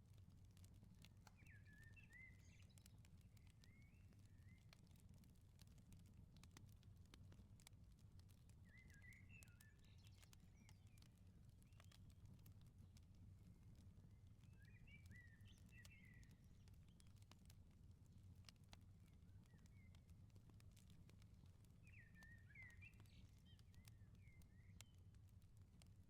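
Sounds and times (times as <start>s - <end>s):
firepit crackling: 0.0s - 26.0s.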